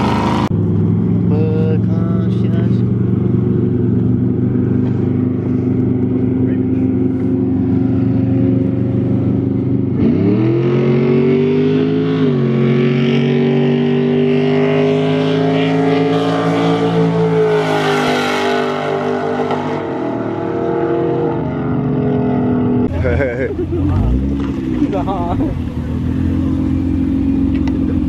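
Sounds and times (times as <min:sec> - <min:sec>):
car engines revving and accelerating: 0:00.0 - 0:28.0.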